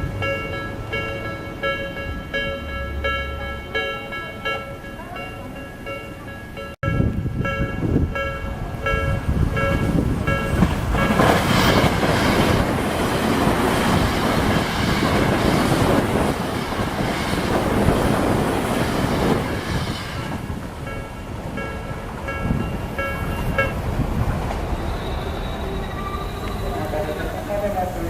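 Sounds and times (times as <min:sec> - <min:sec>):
train passing: 0:00.0 - 0:28.0.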